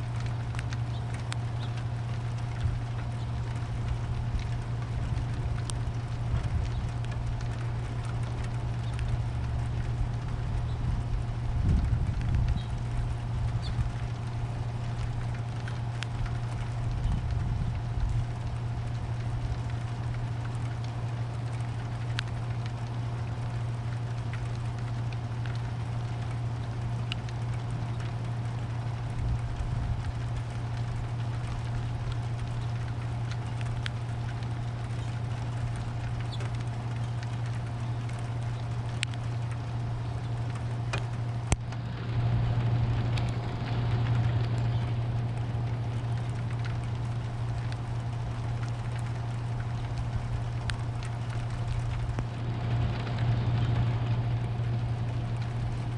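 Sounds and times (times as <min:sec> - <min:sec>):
rain with drips: 0:00.0 - 0:55.9
steady low hum: 0:00.0 - 0:55.9.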